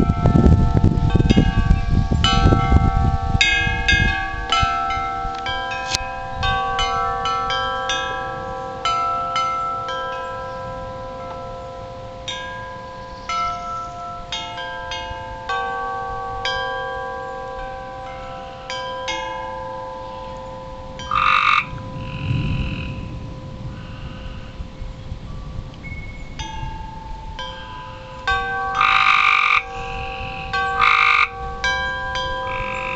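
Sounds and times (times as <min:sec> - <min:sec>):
wind rumbling: 0:00.0 - 0:18.8, 0:20.0 - 0:32.9
wind chimes ringing: 0:00.0 - 0:32.9.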